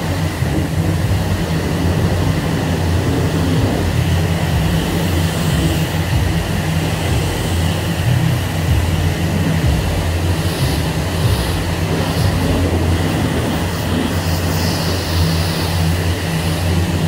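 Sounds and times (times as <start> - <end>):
high-pressure spray hiss: 0.0 - 17.0
pressure washer pump drone: 0.0 - 17.0.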